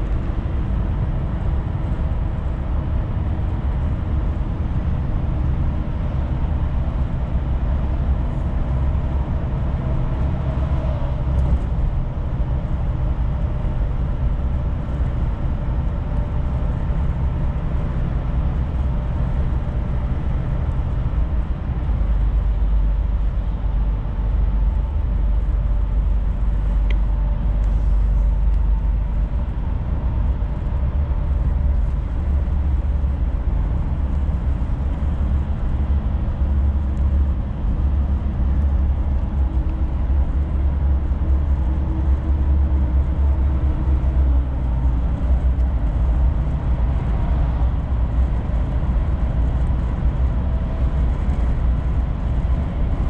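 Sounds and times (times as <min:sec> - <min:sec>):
road noise: 0:00.0 - 0:53.0
truck engine running: 0:00.0 - 0:53.0.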